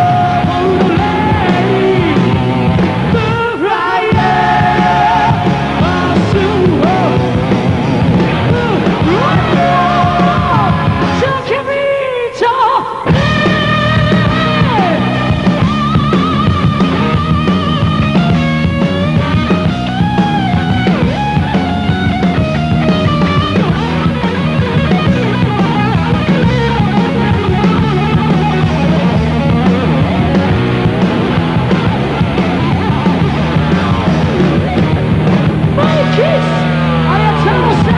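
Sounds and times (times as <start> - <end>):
bass guitar: 0.0 - 11.5, 13.1 - 37.9
drums: 0.0 - 37.9
electric guitar lead: 0.0 - 37.9.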